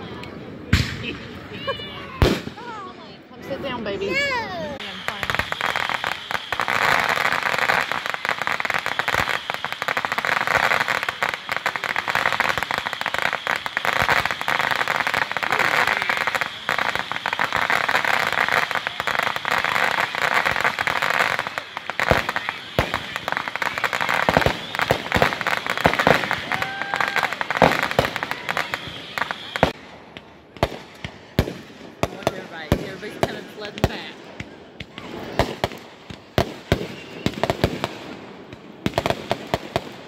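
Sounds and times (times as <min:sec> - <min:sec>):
fireworks crackling: 0:00.1 - 0:40.0.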